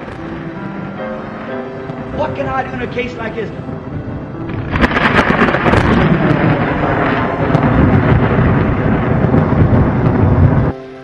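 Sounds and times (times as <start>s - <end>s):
heavy thunder rumble: 0.0s - 11.0s.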